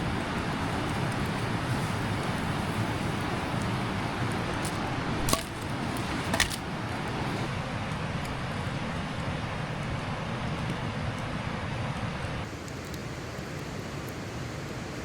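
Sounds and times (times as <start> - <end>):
mountain creek rushing: 0.0 - 15.0.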